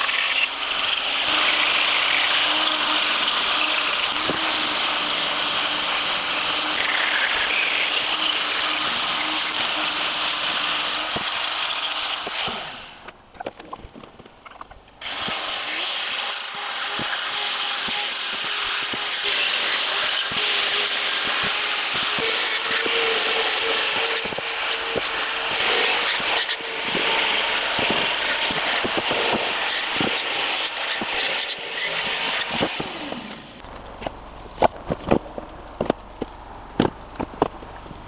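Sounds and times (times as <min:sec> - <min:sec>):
angle grinder grinding wood: 0:00.0 - 0:13.2, 0:14.9 - 0:38.0.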